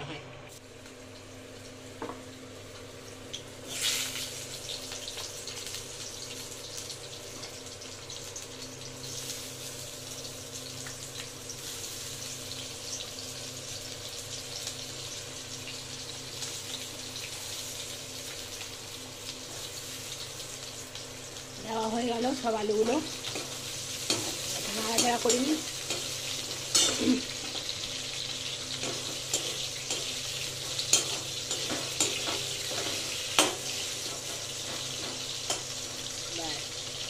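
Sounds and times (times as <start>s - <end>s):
potatoes sizzling in hot oil: 0.6s - 37.0s.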